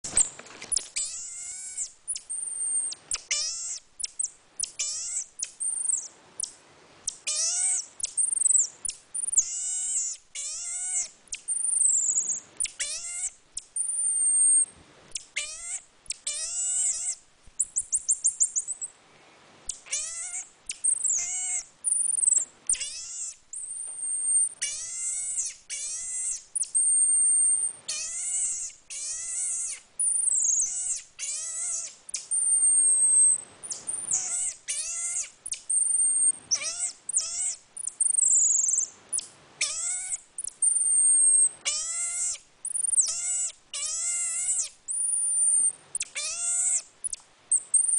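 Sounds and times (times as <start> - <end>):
marmoset squeaky calls: 0.1 - 18.8, 19.7 - 47.9.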